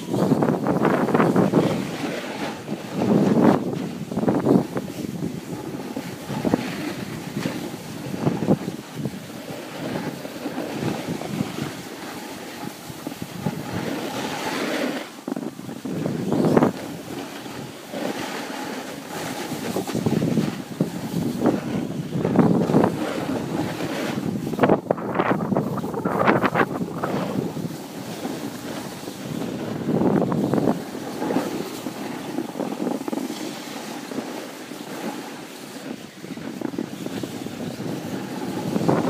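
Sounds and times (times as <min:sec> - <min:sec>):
snowboard scraping over snow: 0:00.0 - 0:39.0
wind rushing over microphone: 0:00.0 - 0:39.0.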